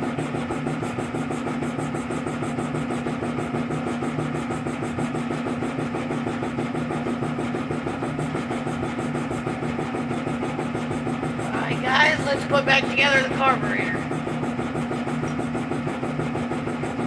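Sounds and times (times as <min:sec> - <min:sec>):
machine running with pulsing hum: 0:00.0 - 0:17.0.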